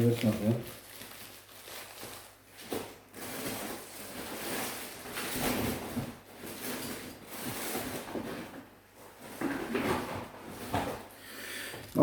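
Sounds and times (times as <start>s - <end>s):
rustling and handling noise: 0.0s - 12.0s.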